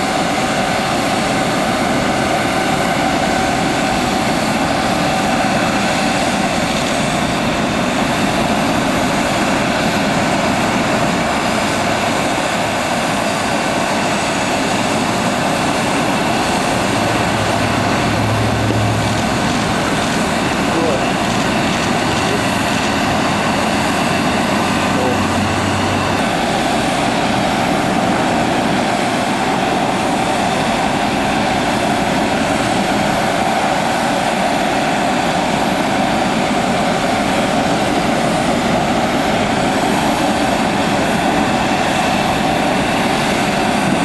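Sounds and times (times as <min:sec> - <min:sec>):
jet engines running: 0:00.0 - 0:44.0.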